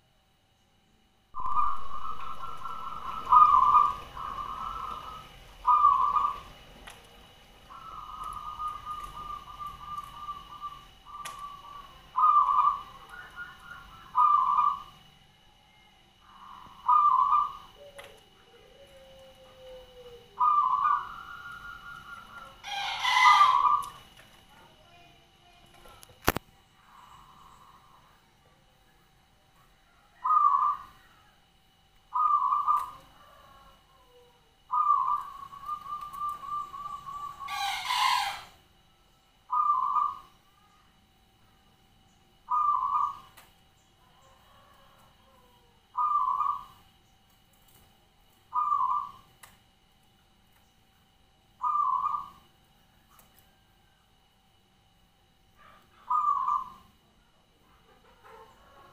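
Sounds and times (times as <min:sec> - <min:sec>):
soft rolling bird notes: 0:00.0 - 0:58.9
dove cooing: 0:01.4 - 0:28.7, 0:29.5 - 0:38.7, 0:39.4 - 0:41.1, 0:42.3 - 0:47.0, 0:47.7 - 0:50.0, 0:51.4 - 0:54.1, 0:55.4 - 0:58.9.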